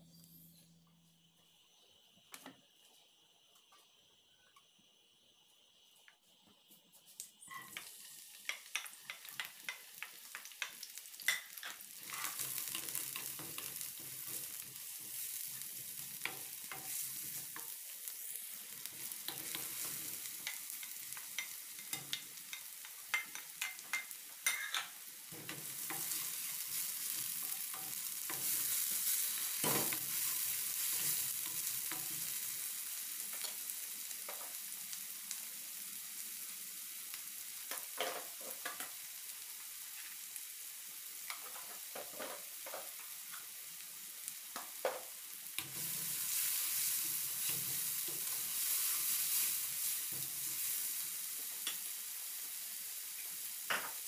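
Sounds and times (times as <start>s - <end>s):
onions sizzling in oil: 7.1s - 54.0s.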